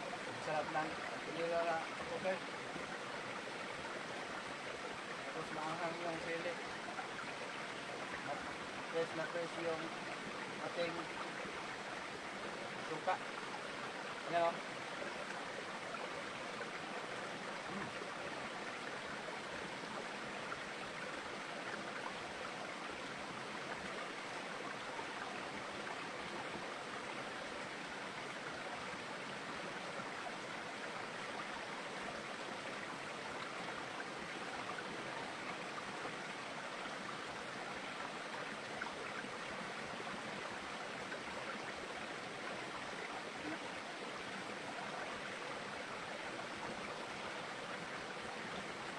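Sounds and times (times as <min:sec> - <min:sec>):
running water: 0:00.0 - 0:48.9.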